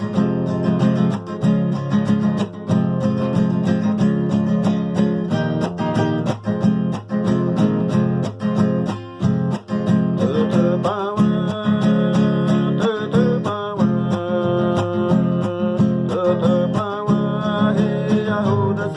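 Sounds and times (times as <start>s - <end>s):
acoustic guitar strumming: 0.0s - 18.9s.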